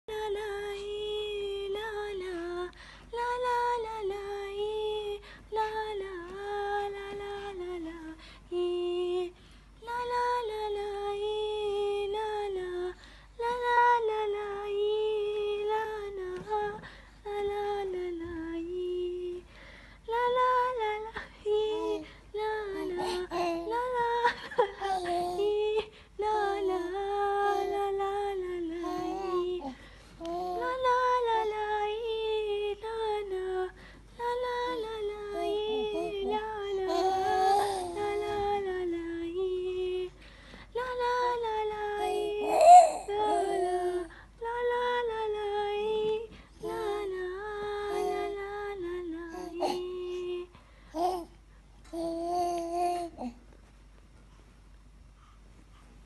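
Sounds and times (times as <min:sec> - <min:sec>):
woman singing wordless melody: 0:00.1 - 0:51.2.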